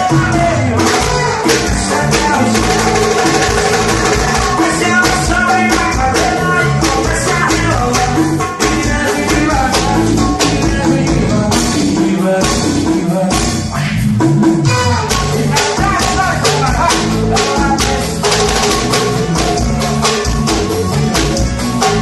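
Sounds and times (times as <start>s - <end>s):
pop music with singing: 0.0s - 22.0s.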